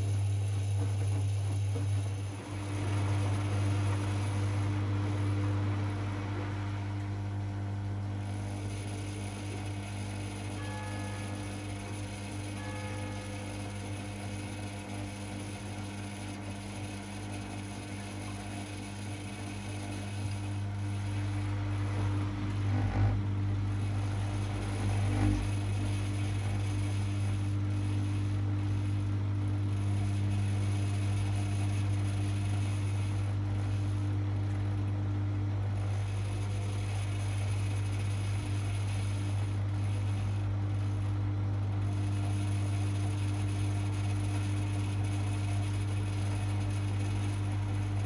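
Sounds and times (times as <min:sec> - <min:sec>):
washing machine humming: 0:00.0 - 0:48.0.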